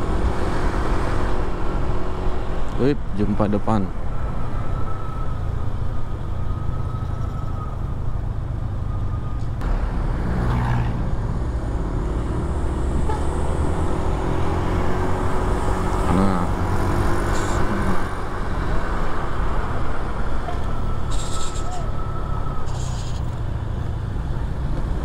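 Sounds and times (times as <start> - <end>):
bus engine and road rumble: 0.0 - 25.0.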